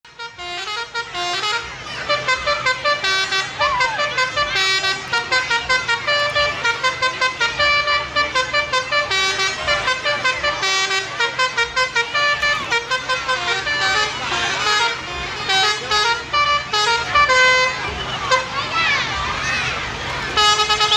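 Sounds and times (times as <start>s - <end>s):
multi-tone musical vehicle horn: 0.0s - 20.9s.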